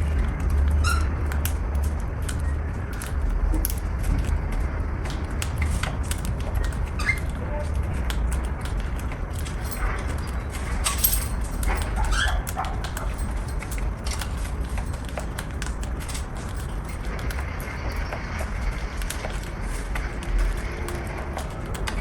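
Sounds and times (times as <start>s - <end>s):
light clicks and taps: 0.0s - 22.0s.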